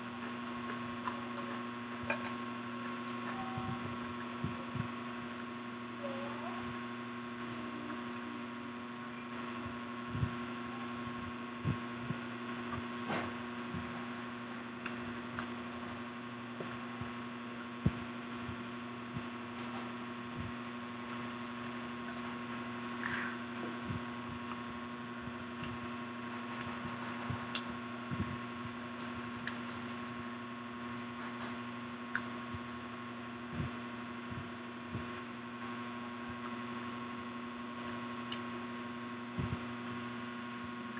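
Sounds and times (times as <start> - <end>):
steady electrical hum: 0.0 - 40.9.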